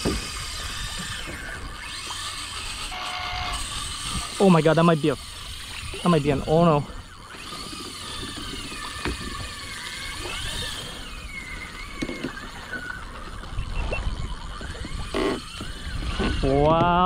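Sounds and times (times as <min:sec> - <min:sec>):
fishing reel drag whining: 0:00.0 - 0:17.0.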